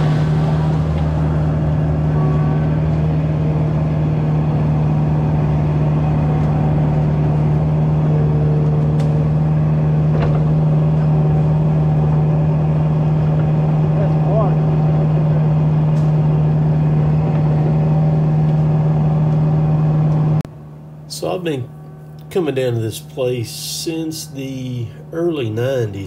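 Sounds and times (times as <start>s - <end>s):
diesel engine running: 0.0s - 26.0s
hydraulic whine: 0.0s - 26.0s.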